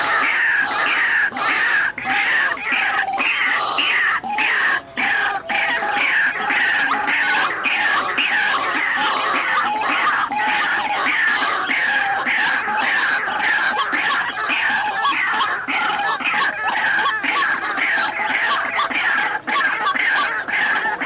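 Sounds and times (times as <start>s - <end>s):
waterhen harsh croaking calls: 0.0s - 21.0s.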